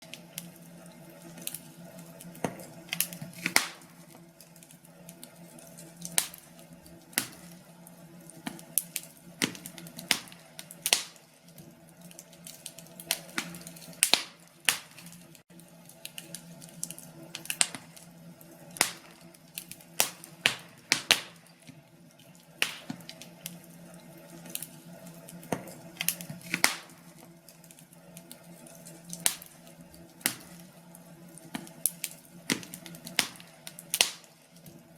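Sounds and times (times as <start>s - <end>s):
log fire crackling: 0.0s - 34.9s.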